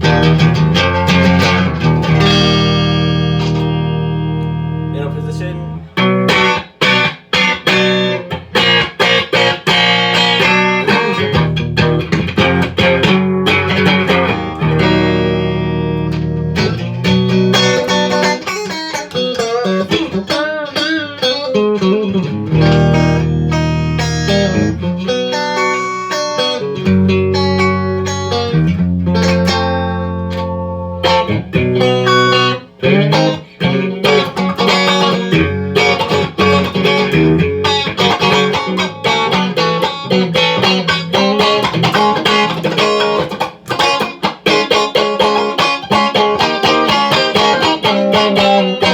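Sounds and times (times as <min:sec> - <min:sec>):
clean electric guitar: 0:00.0 - 0:48.9.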